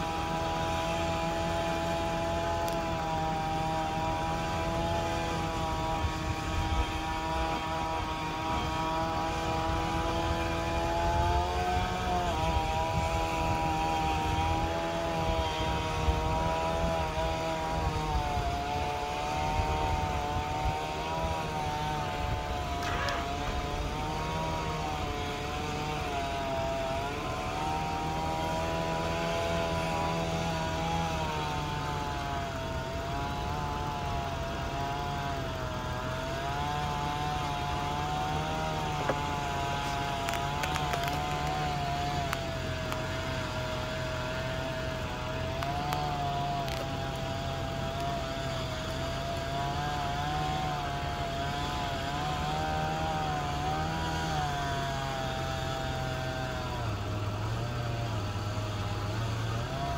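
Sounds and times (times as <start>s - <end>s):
chainsaw cutting: 0.0s - 59.9s.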